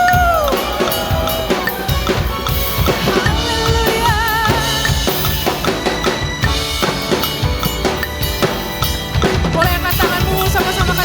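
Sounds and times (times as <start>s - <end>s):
backing music: 0.0s - 11.0s
drum kit playing: 0.0s - 11.0s.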